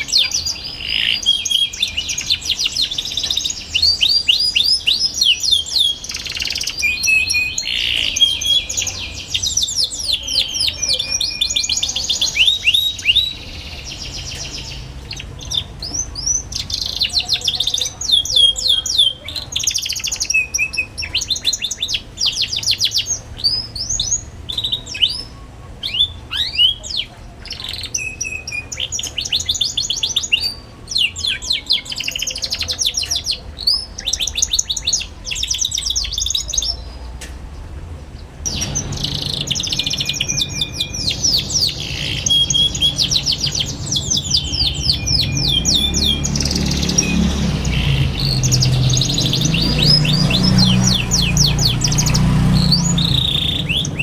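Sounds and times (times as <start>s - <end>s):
canary singing trills: 0.0s - 37.2s, 38.2s - 54.0s.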